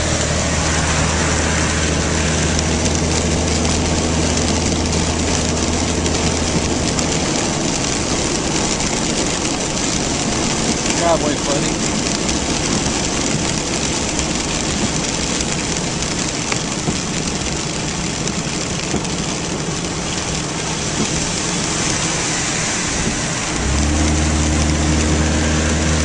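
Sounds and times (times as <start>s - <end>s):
car engine: 0.0s - 26.0s
rain and wet tyres hissing: 0.0s - 26.0s.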